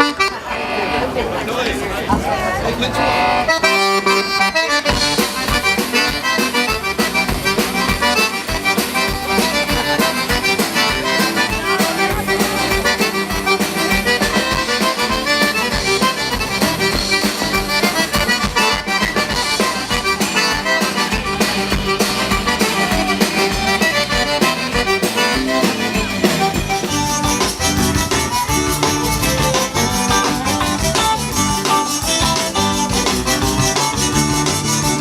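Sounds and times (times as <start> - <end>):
accordion: 0.0 - 35.0
band playing dance music: 0.0 - 35.0.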